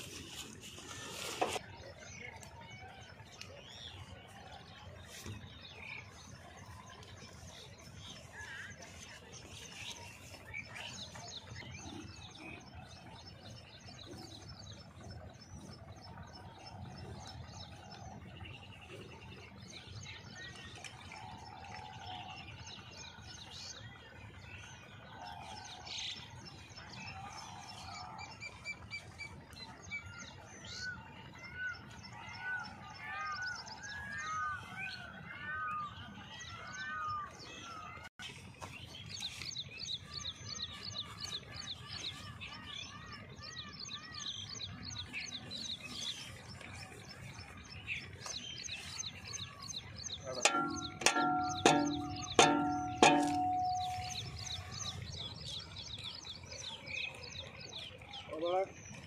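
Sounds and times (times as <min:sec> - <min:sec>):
birds chirping: 0:00.0 - 0:59.0
arching whistled bird notes: 0:01.0 - 0:59.0.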